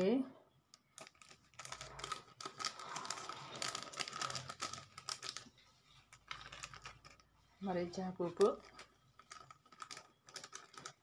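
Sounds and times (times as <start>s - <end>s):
plastic sachet crinkling: 0.8s - 11.0s.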